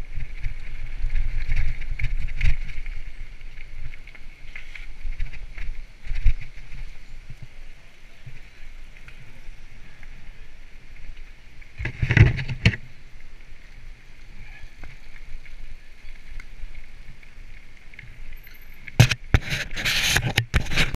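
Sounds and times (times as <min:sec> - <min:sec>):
bike tyres hissing on gravel: 0:00.0 - 0:11.9, 0:12.8 - 0:20.1.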